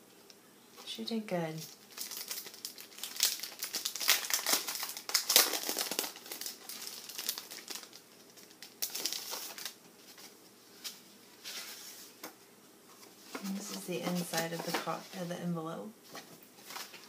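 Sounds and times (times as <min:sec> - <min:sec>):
paper rustling and crinkling: 0:01.6 - 0:15.3, 0:16.0 - 0:17.0.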